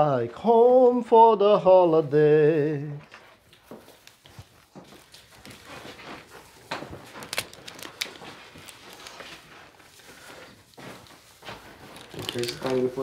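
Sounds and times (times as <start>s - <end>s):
rustling of lights: 1.8s - 13.0s.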